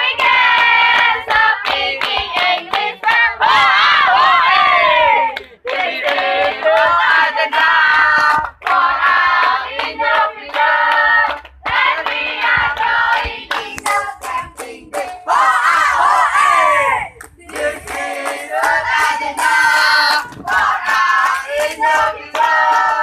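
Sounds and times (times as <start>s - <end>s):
hand claps: 0.0s - 3.7s, 5.3s - 15.3s, 17.2s - 23.0s
teenagers chanting in unison: 0.0s - 23.0s.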